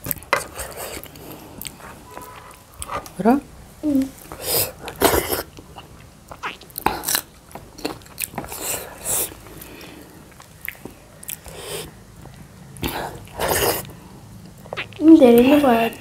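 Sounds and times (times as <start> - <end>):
chewing and mouth smacking: 0.0 - 3.2, 4.4 - 15.0.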